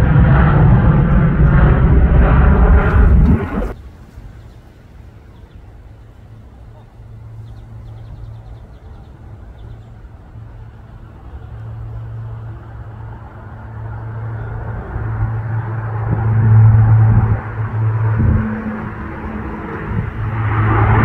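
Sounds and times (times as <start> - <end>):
turboprop airliner droning: 0.0 - 21.0.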